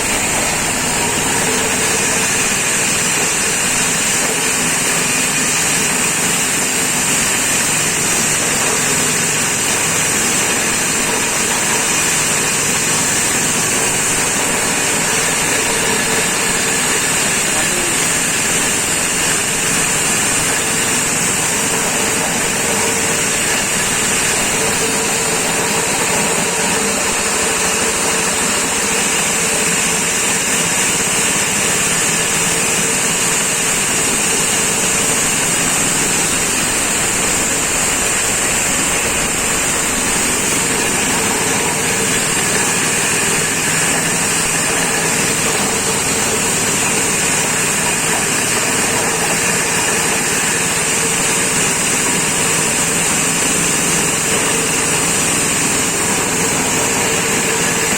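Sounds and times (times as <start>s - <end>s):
grinding mill running: 0.0s - 57.9s
steady high hiss: 0.0s - 57.9s.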